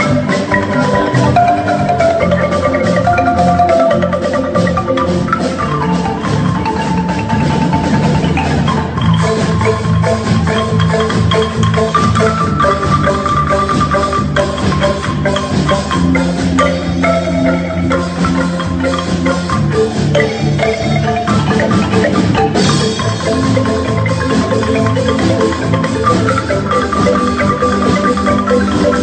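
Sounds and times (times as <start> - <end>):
marimba ensemble playing: 0.0 - 29.0.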